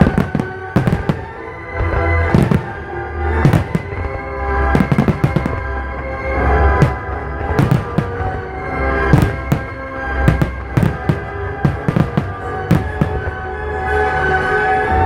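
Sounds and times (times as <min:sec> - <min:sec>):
fireworks bursting: 0:00.0 - 0:13.6
loud music: 0:00.0 - 0:15.0.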